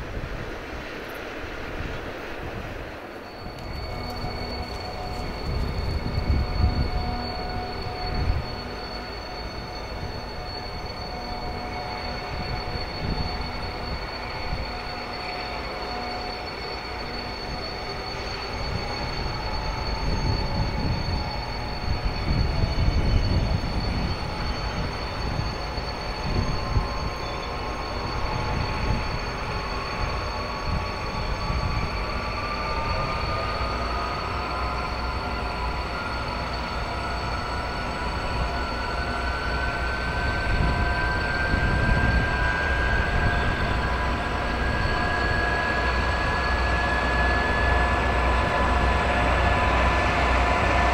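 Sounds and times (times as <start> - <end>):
diesel locomotive engine rumble: 0.0 - 50.9
rising whine: 0.0 - 50.9.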